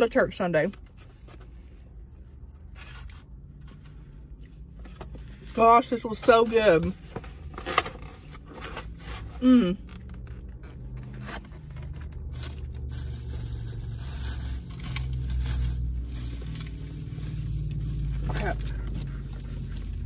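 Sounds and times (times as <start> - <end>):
low steady hum: 0.0 - 20.0
styrofoam container scraping and creaking: 2.6 - 4.1, 4.7 - 20.0.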